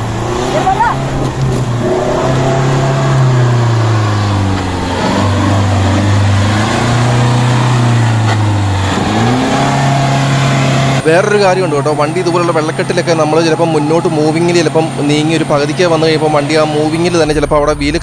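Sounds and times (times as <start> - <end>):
jeep engine revving: 0.0 - 18.0.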